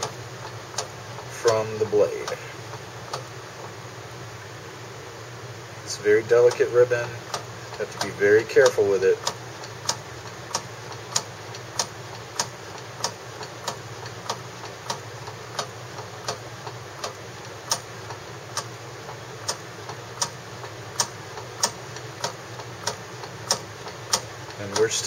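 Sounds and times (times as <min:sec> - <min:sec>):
microtome clicking: 0:00.0 - 0:03.4, 0:06.3 - 0:25.0.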